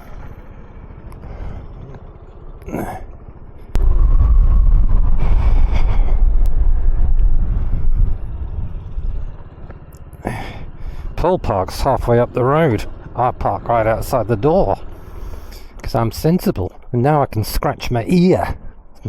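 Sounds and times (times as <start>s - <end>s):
motor scooter running slowly: 0.0s - 16.9s
loud low rumble: 0.0s - 17.4s.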